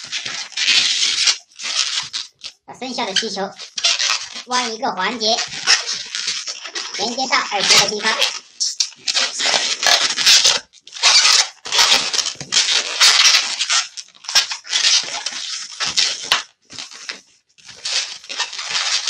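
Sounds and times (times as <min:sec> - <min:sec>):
balloons squeaking and rubbing: 0:00.0 - 0:19.0.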